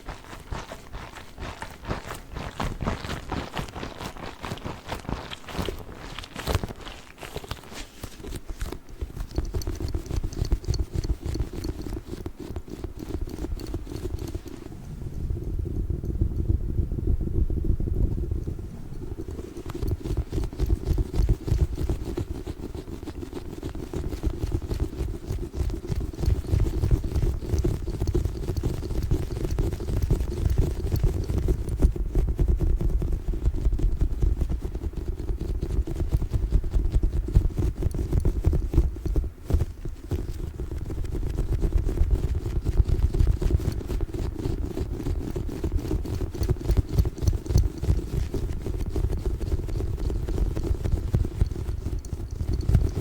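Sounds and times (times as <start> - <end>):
hands squeezing water-bead ball: 0.0 - 14.8, 19.0 - 53.0.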